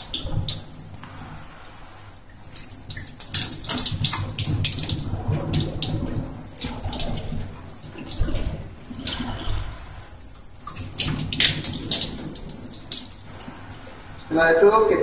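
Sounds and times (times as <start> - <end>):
tap water running into sink: 1.9 - 14.4.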